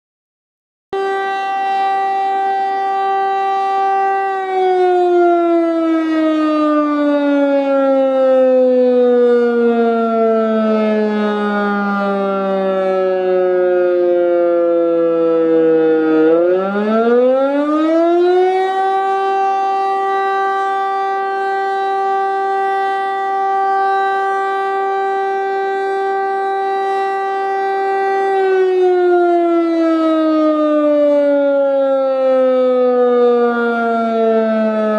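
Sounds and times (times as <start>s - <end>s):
siren rising and falling: 0.9s - 34.9s.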